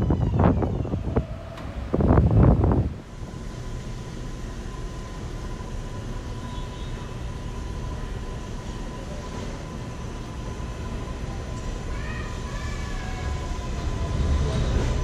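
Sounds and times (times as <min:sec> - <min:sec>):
high steady whine: 0:00.0 - 0:12.1
subway train rumbling: 0:00.0 - 0:15.0.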